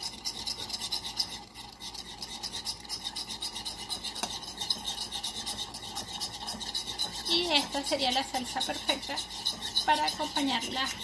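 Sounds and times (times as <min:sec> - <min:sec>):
fork whisking in a bowl: 0:00.0 - 0:11.0.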